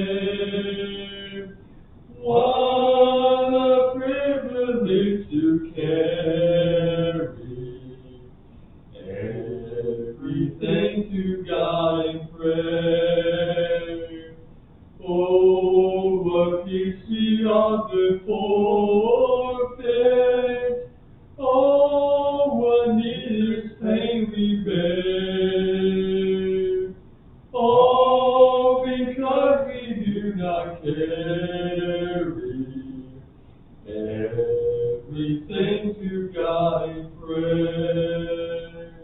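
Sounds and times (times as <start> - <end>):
man singing a hymn: 0.0 - 8.3, 8.9 - 14.4, 15.0 - 39.0.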